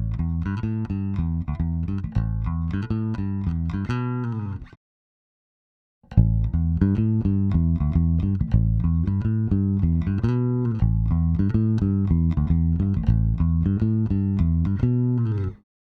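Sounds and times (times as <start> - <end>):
plucked electric bass notes: 0.0 - 4.8, 6.1 - 15.6.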